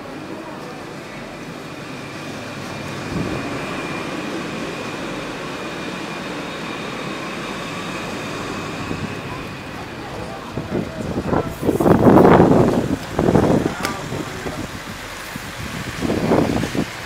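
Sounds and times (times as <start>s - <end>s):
personal transporter whirring: 0.0s - 17.0s.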